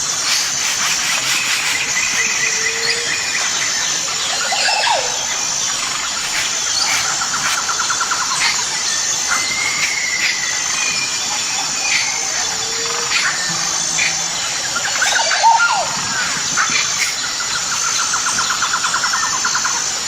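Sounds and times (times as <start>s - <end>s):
insect drone: 0.0s - 20.0s
birds calling: 0.3s - 20.0s.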